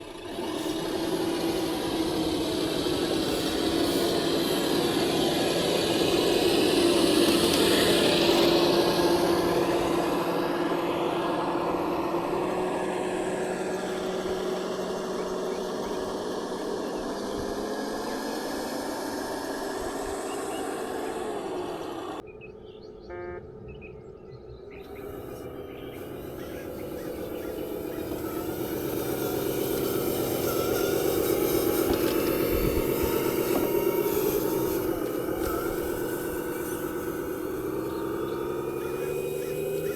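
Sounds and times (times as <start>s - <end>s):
motor humming: 0.0s - 22.3s, 24.4s - 39.9s.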